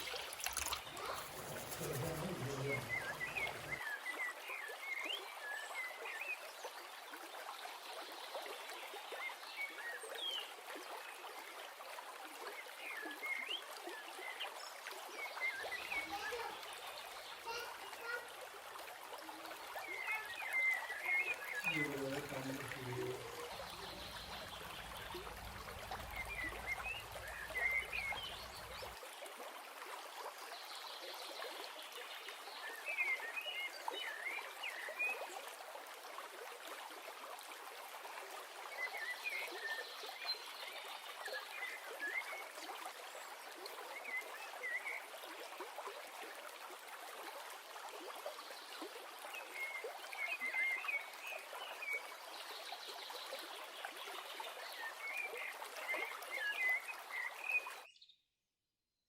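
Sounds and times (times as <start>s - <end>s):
running water: 0.0s - 57.9s.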